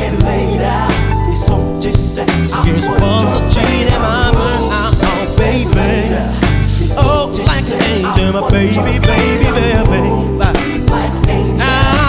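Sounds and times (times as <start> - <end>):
bass: 0.0 - 12.0
drum beat: 0.0 - 12.0
mellow pop song: 0.0 - 12.0
person singing: 0.0 - 12.0.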